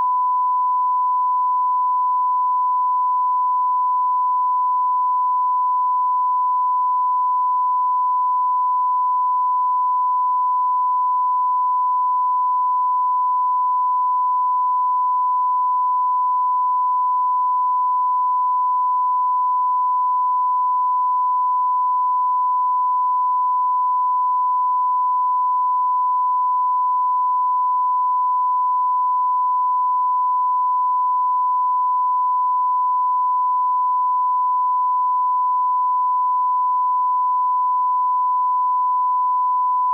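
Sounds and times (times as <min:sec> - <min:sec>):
censor bleep tone: 0:00.0 - 0:39.9.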